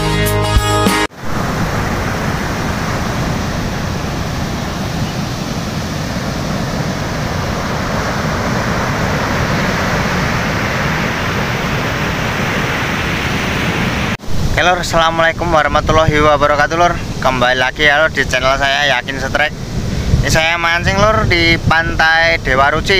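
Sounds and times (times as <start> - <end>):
ocean waves breaking: 1.0 - 22.9
low surf rumble: 1.2 - 22.9.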